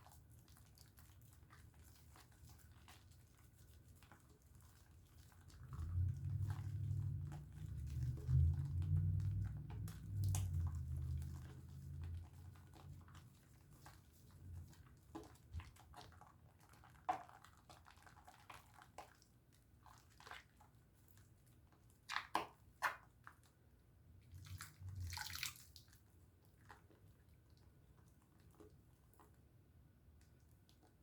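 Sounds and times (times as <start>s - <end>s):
soap lathering wet squishes: 0.0s - 31.0s.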